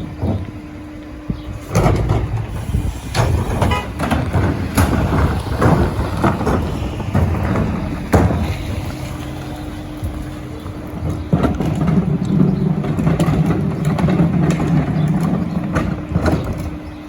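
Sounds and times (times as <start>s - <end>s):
garbage truck engine humming: 0.0s - 17.0s
sharp knocks: 1.4s - 16.7s.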